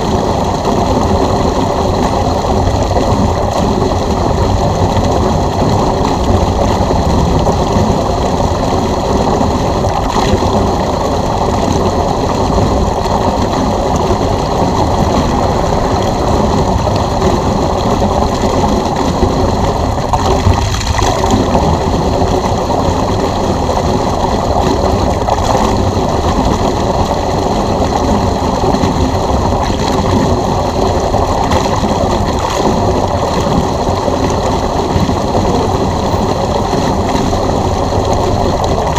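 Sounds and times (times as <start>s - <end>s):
pool pump motor whine: 0.0s - 38.9s
water rushing through hose: 0.0s - 38.9s.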